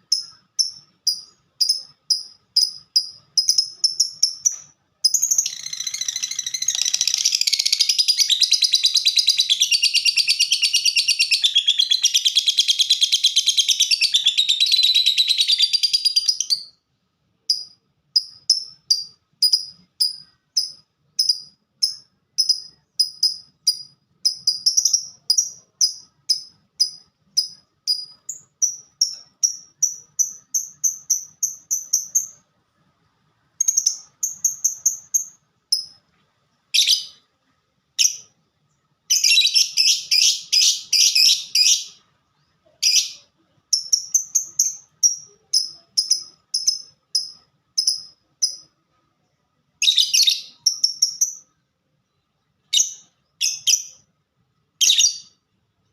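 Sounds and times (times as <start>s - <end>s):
lovebird chirping song: 0.0s - 16.8s, 17.5s - 32.9s, 33.5s - 36.0s, 36.6s - 37.3s, 38.0s - 54.1s, 54.8s - 55.9s.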